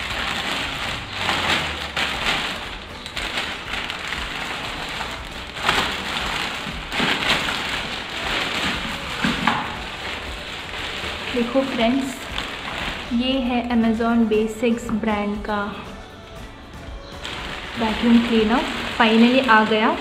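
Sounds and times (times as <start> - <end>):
plastic film crinkling: 0.0 - 14.5, 16.6 - 20.0.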